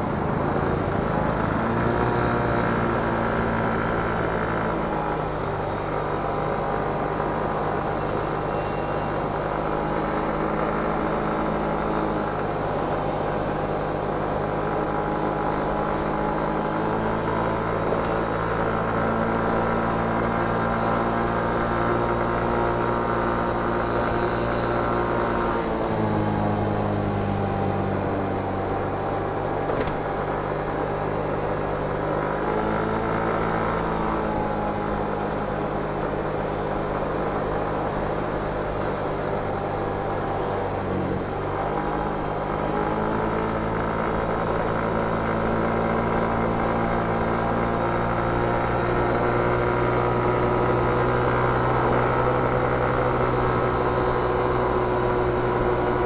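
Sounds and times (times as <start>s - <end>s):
motor scooter engine: 0.0s - 56.0s.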